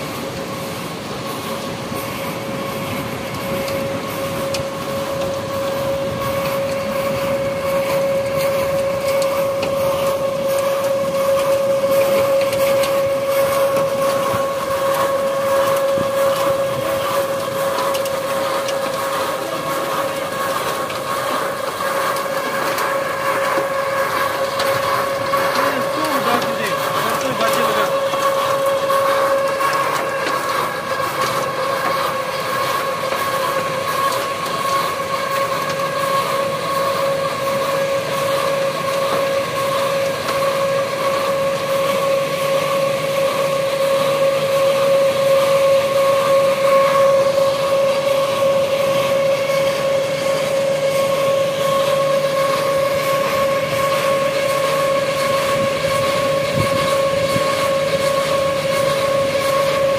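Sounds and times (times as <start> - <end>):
high-pitched hum: 0.0 - 59.9
machinery drone: 0.0 - 59.9.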